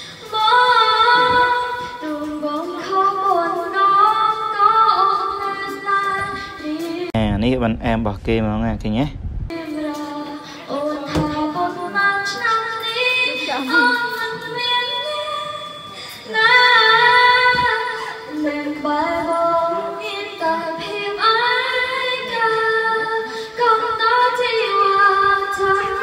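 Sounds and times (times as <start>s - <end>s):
girl singing into a microphone: 0.0s - 7.1s, 9.5s - 26.0s.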